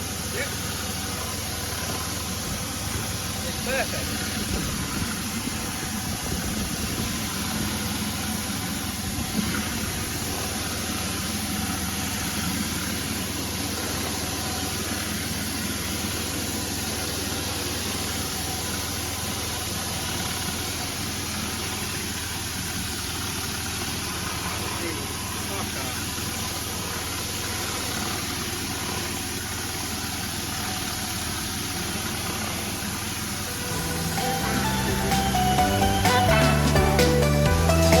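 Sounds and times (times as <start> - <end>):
pressure washer motor hum: 0.0 - 38.0.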